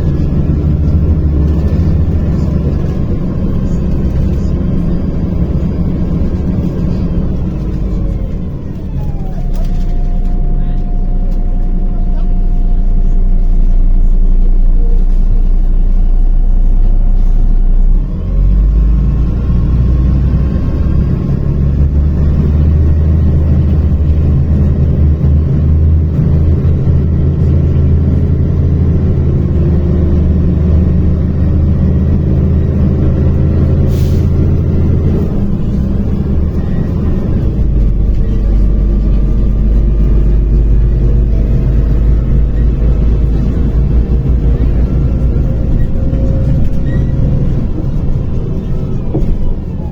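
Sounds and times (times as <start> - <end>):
bus diesel engine: 0.0 - 49.9.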